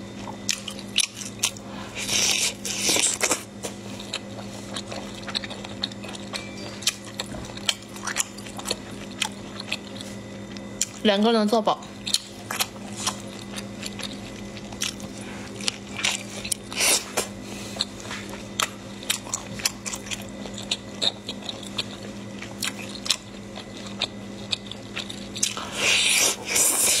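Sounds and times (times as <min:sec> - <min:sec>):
steady low hum: 0:00.0 - 0:27.0
person eating with wet mouth sounds: 0:00.4 - 0:11.0, 0:12.0 - 0:27.0.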